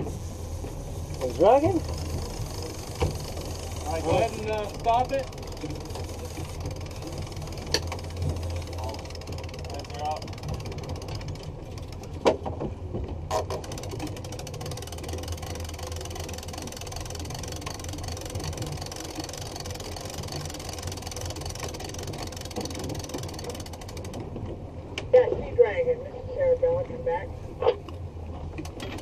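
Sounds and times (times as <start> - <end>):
boat engine rumbling: 0.0 - 29.0.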